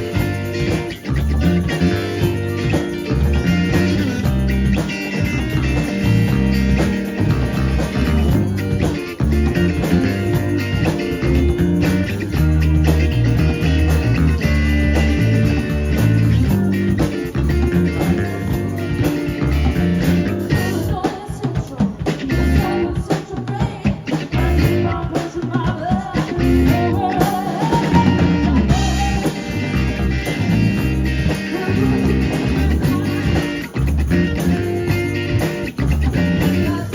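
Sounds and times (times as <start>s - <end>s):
bass guitar: 0.0s - 23.2s, 23.8s - 36.9s
drum kit: 0.0s - 36.9s
electric guitar: 0.0s - 36.9s.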